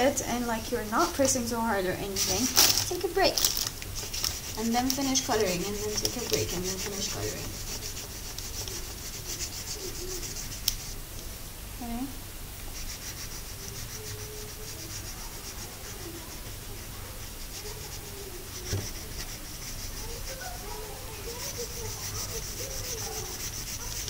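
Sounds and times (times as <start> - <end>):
crayon scratching on paper: 1.0 - 11.0, 12.7 - 24.0.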